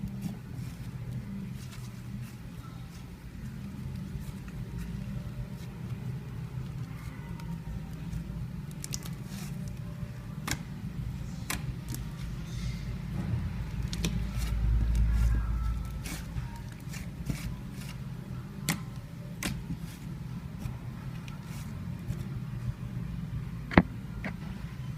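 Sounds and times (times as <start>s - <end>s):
slime squishing by hand: 0.0s - 12.5s, 13.4s - 22.4s.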